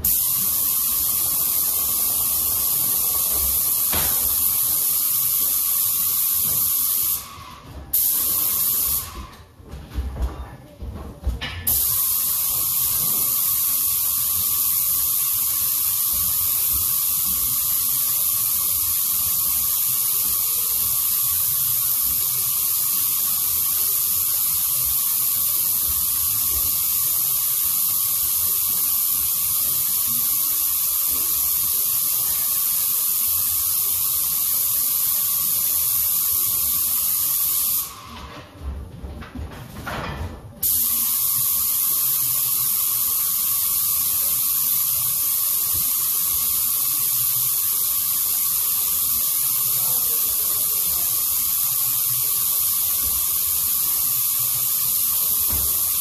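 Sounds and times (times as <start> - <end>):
paint sprayer hissing: 0.0 - 9.6, 11.6 - 38.4, 40.6 - 56.0.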